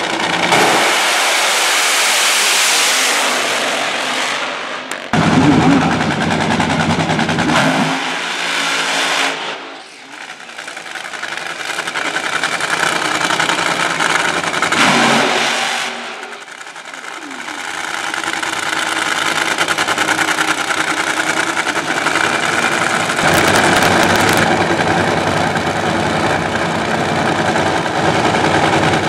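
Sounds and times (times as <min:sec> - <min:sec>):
drag racing engines roaring: 0:00.0 - 0:29.0.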